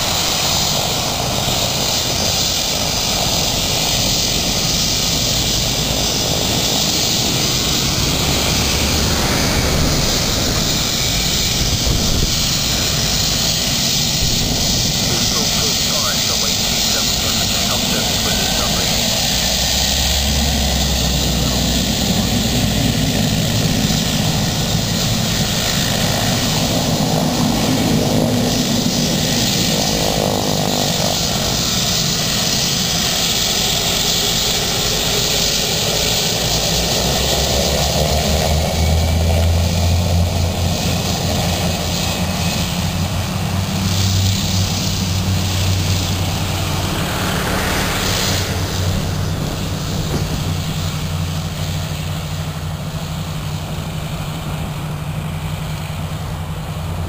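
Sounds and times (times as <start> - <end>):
aircraft engines running: 0.0 - 57.0
low hum: 0.0 - 57.0.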